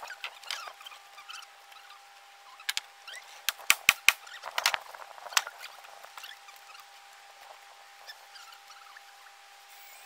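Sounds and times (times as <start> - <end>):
faint squeaks and creaks: 0.0 - 3.5, 4.2 - 10.0.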